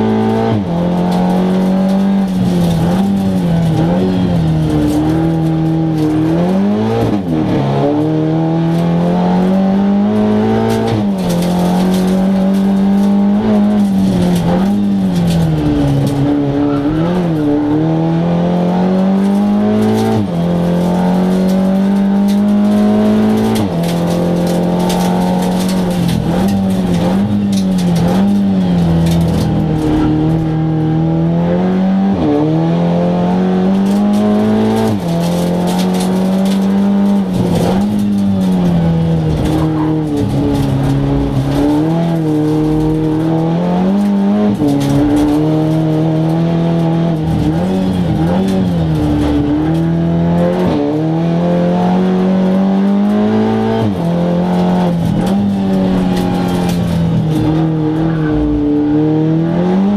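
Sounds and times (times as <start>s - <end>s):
gear changes: 0.0s - 59.9s
race car engine revving: 0.0s - 59.9s.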